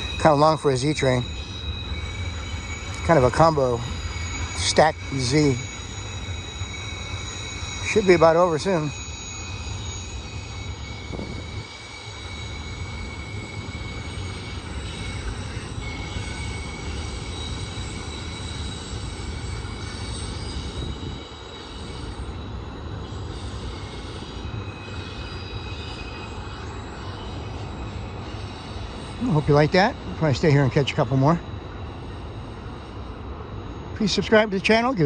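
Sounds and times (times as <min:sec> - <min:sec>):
faint high squeal: 0:00.0 - 0:35.0
freight train cars rumbling past: 0:00.0 - 0:35.0.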